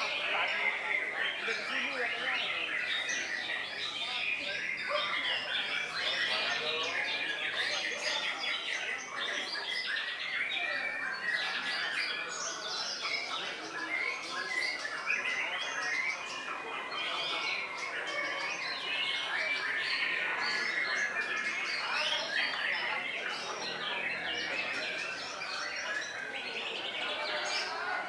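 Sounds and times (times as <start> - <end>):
birds singing: 0.0 - 28.0.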